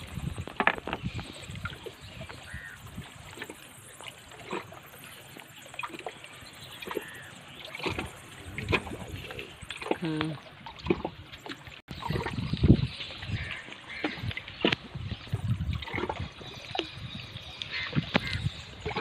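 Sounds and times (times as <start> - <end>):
small waves lapping on rocks: 0.0 - 19.0.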